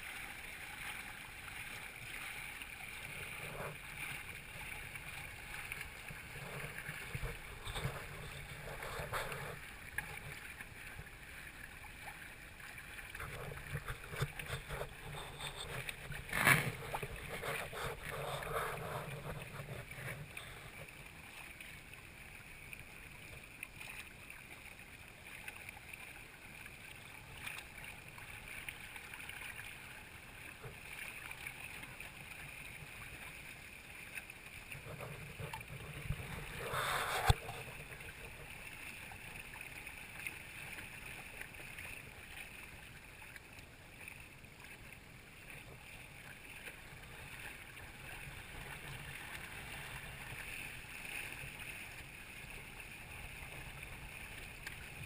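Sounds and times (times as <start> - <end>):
water rushing along hull: 0.0 - 55.0.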